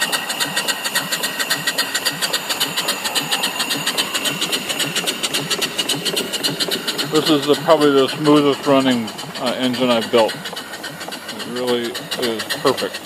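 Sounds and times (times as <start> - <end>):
steady steam hiss: 0.0 - 13.0
steam engine exhaust chuffing: 0.0 - 13.0.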